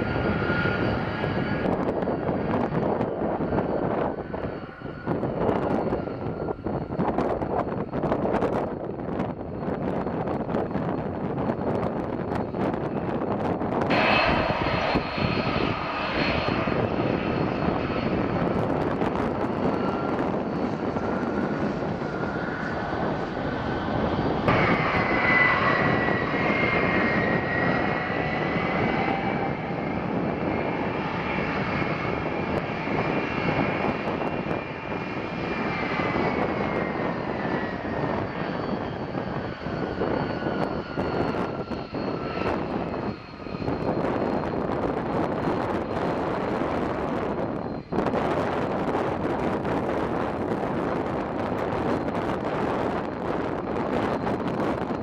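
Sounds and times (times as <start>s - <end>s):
jet engines roaring with fan whine: 0.0s - 55.0s.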